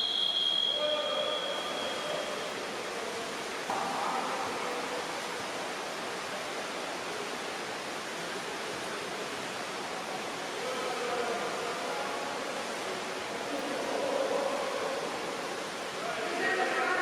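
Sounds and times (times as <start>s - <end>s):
water splashing in a pool: 0.0s - 17.0s.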